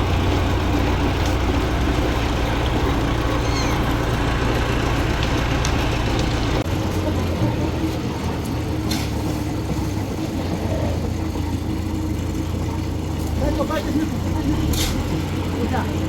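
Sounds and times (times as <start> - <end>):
heavy engine humming: 0.0 - 16.0.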